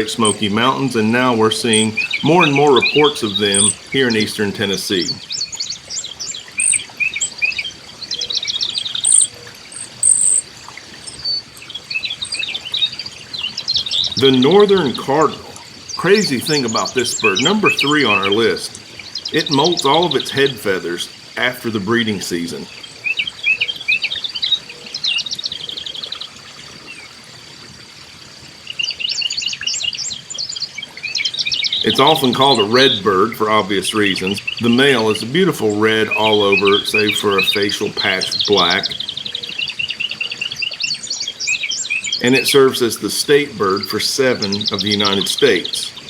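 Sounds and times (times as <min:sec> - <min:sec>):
birds chirping and trilling: 0:00.0 - 0:46.0.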